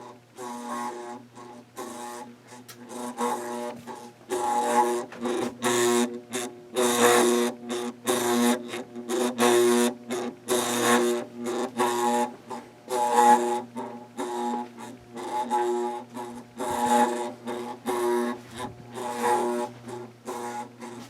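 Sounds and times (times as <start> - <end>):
ceiling fan motor humming: 0.0 - 21.0.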